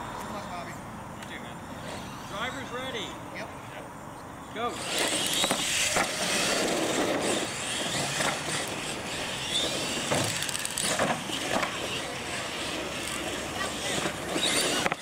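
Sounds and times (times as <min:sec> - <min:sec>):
toy truck motors and tyres: 0:01.2 - 0:03.0, 0:04.6 - 0:15.0.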